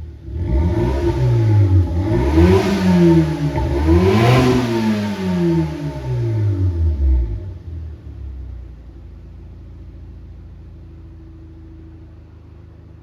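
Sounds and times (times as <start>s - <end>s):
car engine idling: 1.0s - 13.0s.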